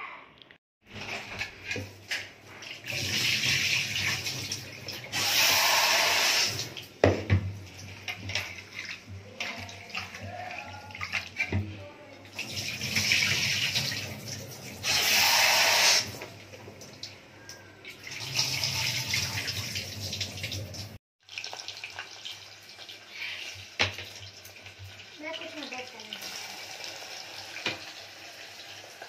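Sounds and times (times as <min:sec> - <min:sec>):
tap water running and splashing: 0:00.8 - 0:29.0.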